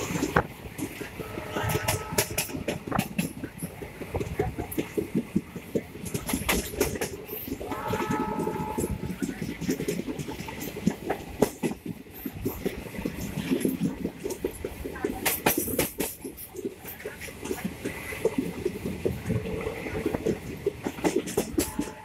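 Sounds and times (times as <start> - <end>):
train coach rumble: 0.0 - 22.0
wheels clattering over rail joints: 0.0 - 22.0.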